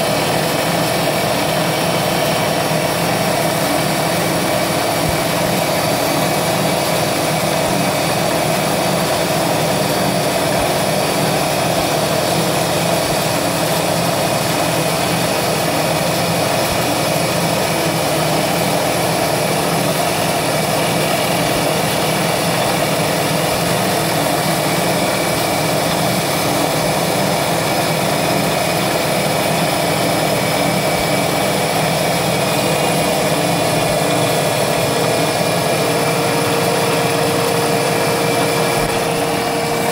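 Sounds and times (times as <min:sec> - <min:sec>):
end mill cutting aluminium: 0:00.0 - 0:39.9
milling machine spindle whine: 0:00.0 - 0:39.9.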